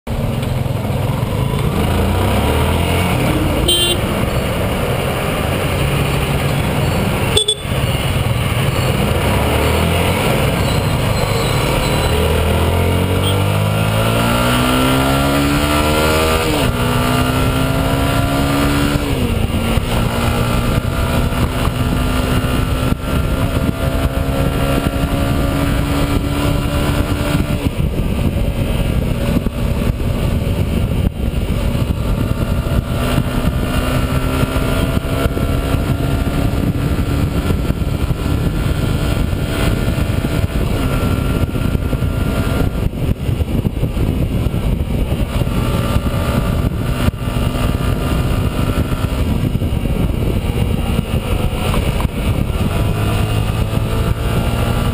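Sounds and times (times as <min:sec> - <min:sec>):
motorcycle engine accelerating: 0:00.1 - 0:54.9.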